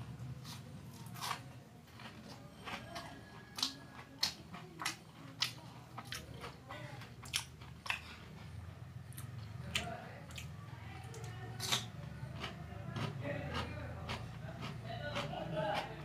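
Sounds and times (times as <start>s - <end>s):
soft chewing: 0.0s - 16.0s
sharp crunches of fried food: 0.3s - 2.3s, 3.4s - 8.3s, 9.1s - 15.9s.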